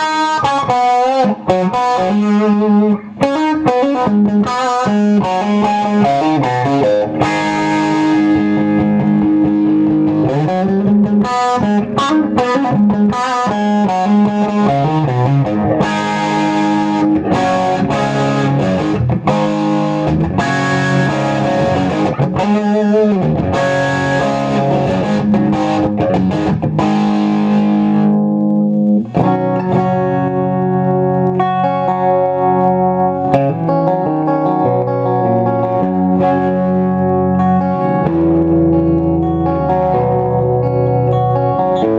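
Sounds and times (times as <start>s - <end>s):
distorted electric guitar: 0.0s - 41.9s.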